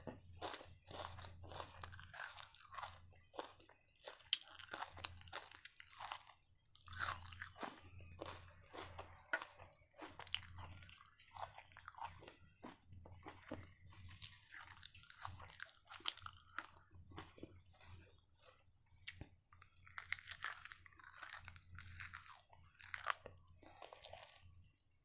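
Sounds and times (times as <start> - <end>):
crunchy chewing: 0.4 - 24.9.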